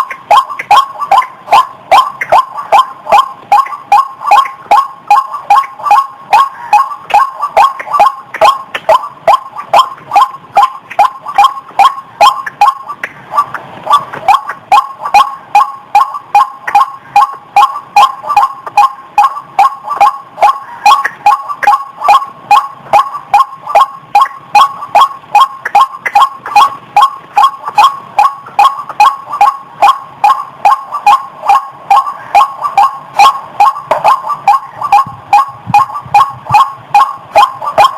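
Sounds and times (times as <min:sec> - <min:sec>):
bird calling repeated notes: 0:00.0 - 0:37.9.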